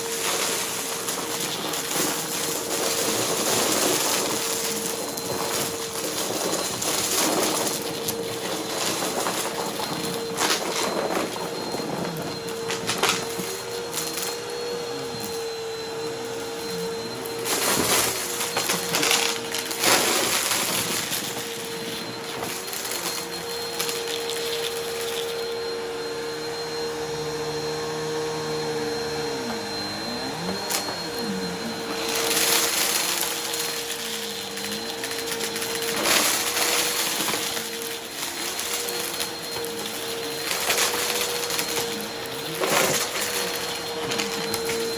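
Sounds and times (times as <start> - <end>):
vacuum cleaner whining: 0.0 - 44.9.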